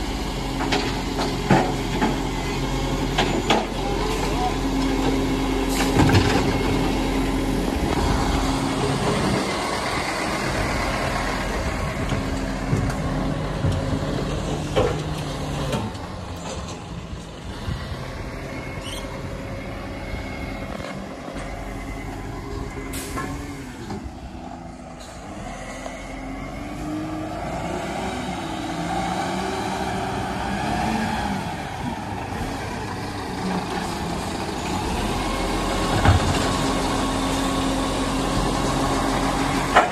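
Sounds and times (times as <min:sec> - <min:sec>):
garbage truck engine: 0:00.0 - 0:39.9.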